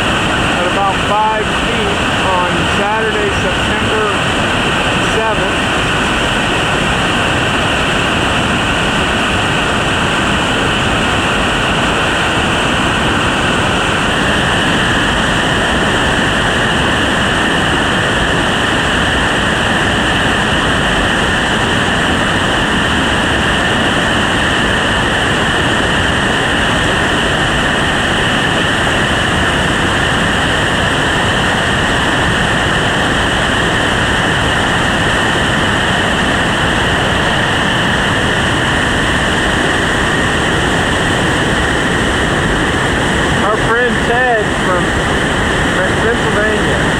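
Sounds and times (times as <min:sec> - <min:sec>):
river rapid whitewater rushing: 0:00.0 - 0:46.9.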